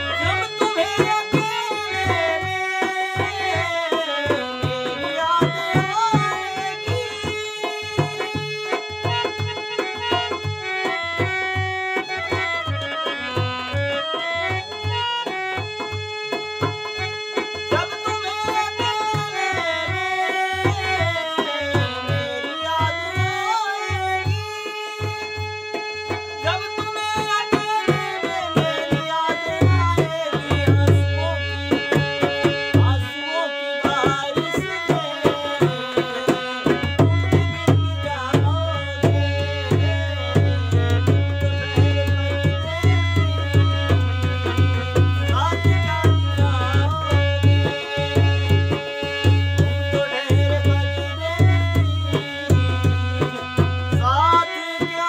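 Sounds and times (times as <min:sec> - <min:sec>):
man singing: 0:00.0 - 0:15.9, 0:16.6 - 0:55.0
dholak drum beat: 0:00.0 - 0:55.0
harmonium melody: 0:00.0 - 0:55.0.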